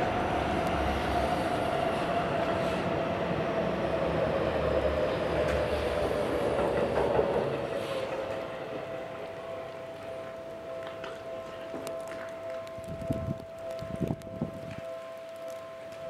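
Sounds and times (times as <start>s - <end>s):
train rumbling with humming tone: 0.0s - 16.0s.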